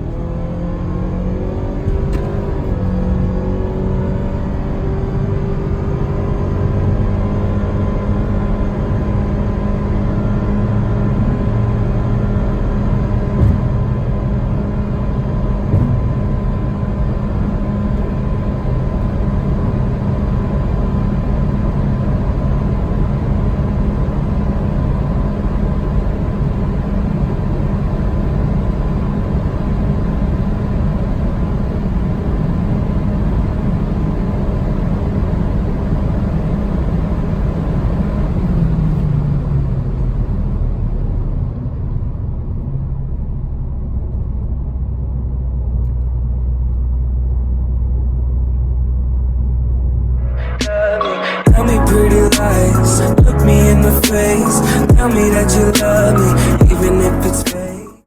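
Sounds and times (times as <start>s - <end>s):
car engine running steadily: 0.0s - 50.2s
road and wind noise: 0.0s - 50.2s.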